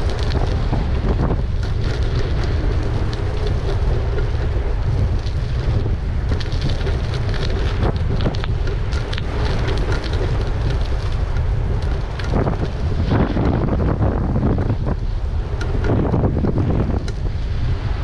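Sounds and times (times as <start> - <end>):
small clicks and rattles: 0.0 - 17.3
wind buffeting microphone: 0.0 - 18.0.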